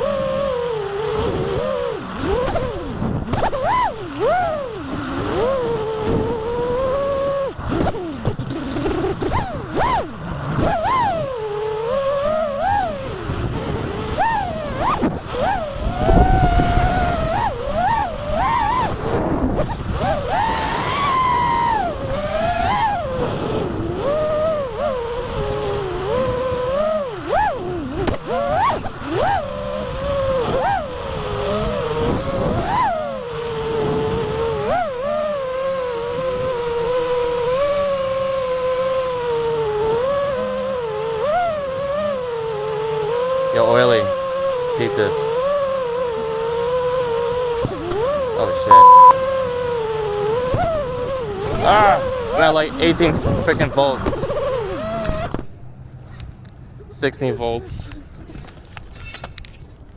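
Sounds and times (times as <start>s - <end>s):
quadcopter motors whining: 0.0s - 56.4s.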